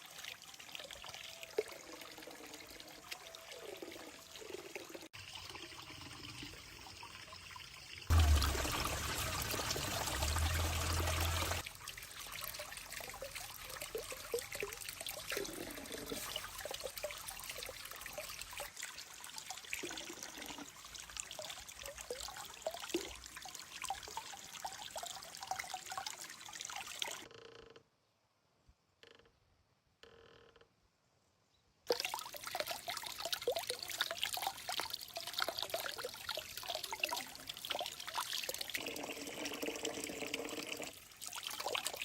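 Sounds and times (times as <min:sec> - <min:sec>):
water trickling and gurgling: 0:00.0 - 0:27.3, 0:31.9 - 0:42.0.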